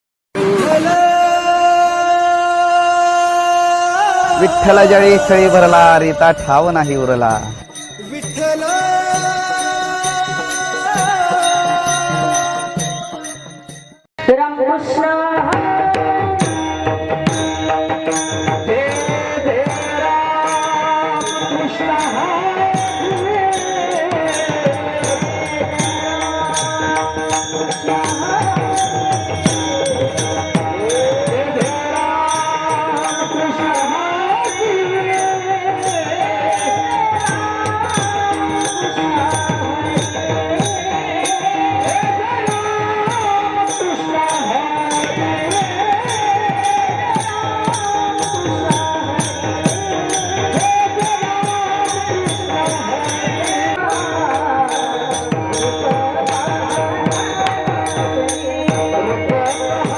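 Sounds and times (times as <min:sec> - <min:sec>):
sustained devotional melody: 0:00.4 - 0:59.9.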